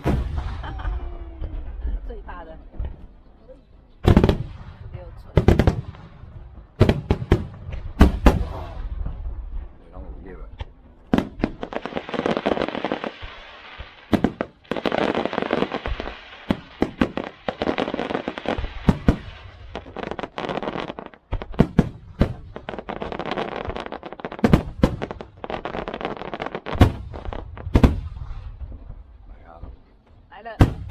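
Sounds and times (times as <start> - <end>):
fireworks loud bangs: 0.0 - 3.3, 4.0 - 30.9
firecrackers crackling: 0.0 - 30.9.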